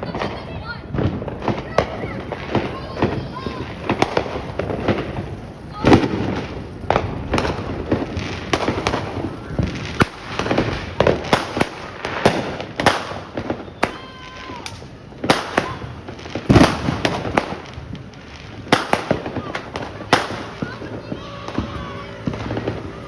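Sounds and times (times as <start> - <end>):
firecrackers crackling: 0.0 - 23.0
fireworks bangs and pops: 0.0 - 23.0.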